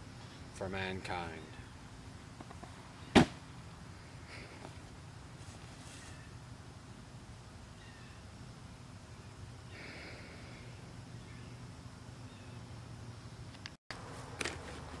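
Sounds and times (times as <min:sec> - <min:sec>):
soft hiss: 0:00.0 - 0:15.0.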